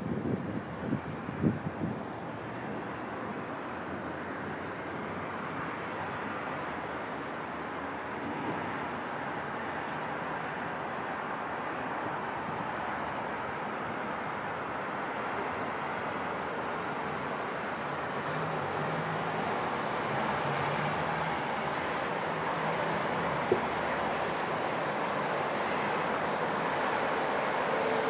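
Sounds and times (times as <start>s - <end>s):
distant city traffic hiss and rumble: 0.0s - 28.0s.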